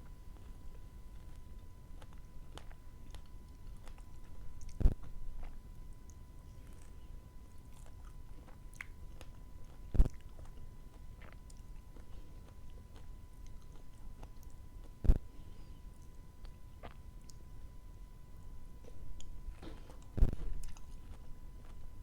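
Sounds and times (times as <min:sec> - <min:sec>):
chewing sweets: 0:00.0 - 0:22.0.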